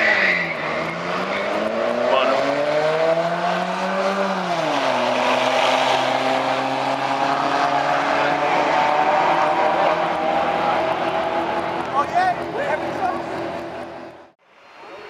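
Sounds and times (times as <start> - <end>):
race cars at full throttle: 0.0 - 15.0.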